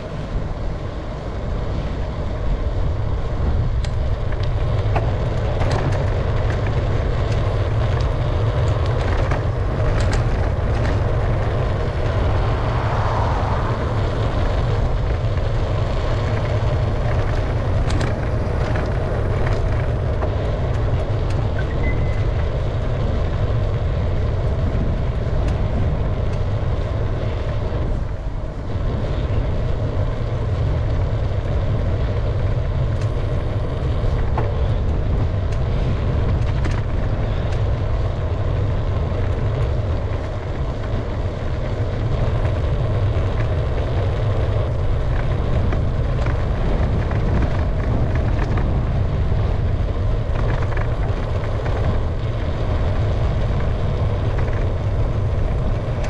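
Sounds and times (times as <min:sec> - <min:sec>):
bicycle road noise: 0:00.0 - 0:56.0
wind rumble on microphone: 0:00.0 - 0:56.0.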